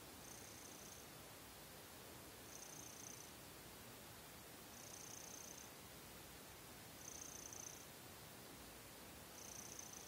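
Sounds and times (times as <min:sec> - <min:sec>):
soft high hiss: 0:00.0 - 0:10.0.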